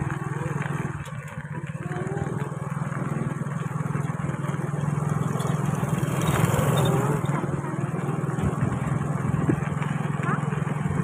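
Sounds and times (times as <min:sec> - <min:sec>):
small engine droning: 0:00.0 - 0:11.0.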